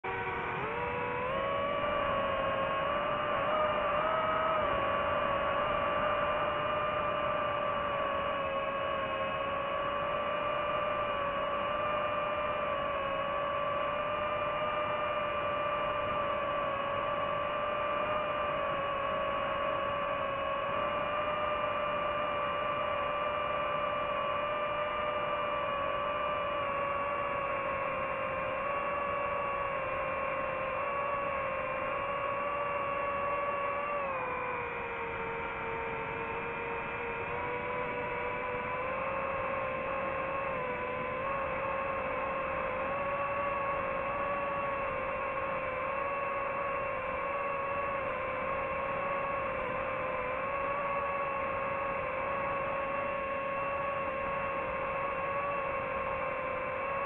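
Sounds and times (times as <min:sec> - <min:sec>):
drone propellers whining: 0:00.1 - 0:57.0.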